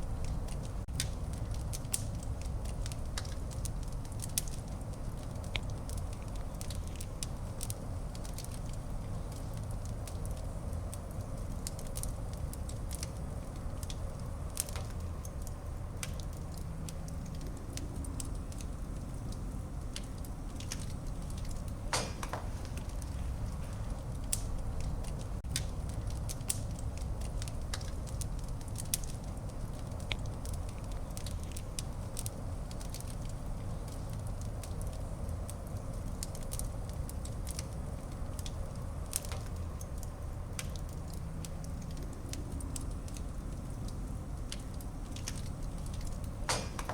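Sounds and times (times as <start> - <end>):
fire crackling in fireplace: 0.0 - 46.9
fire hiss: 0.0 - 46.9.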